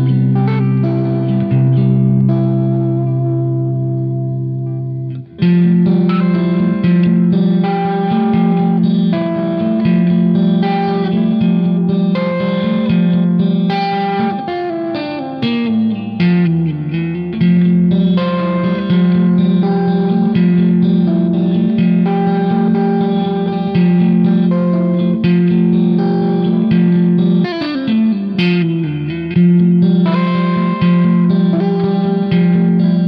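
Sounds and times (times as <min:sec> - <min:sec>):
electric guitar prog rock: 0:00.0 - 0:33.0.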